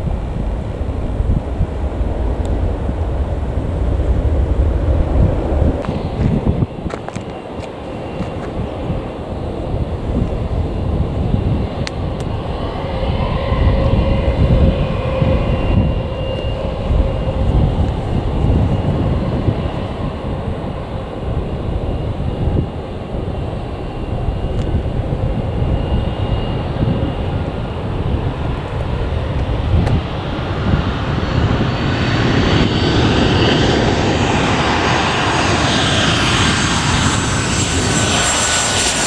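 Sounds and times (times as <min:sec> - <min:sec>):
jet engines at takeoff: 0:00.0 - 0:39.0.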